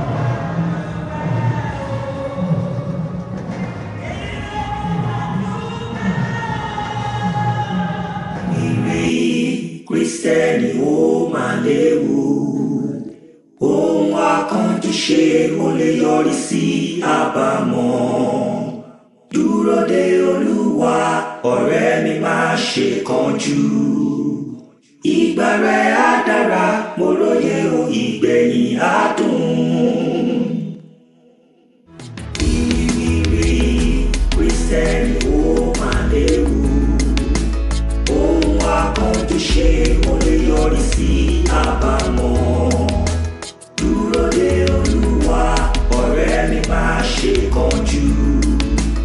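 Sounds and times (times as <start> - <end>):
group singing gospel song: 0.0 - 31.7, 32.4 - 49.0.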